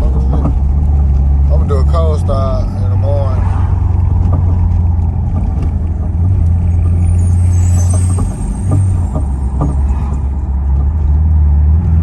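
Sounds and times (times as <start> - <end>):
car engine droning from inside cabin: 0.0 - 12.0.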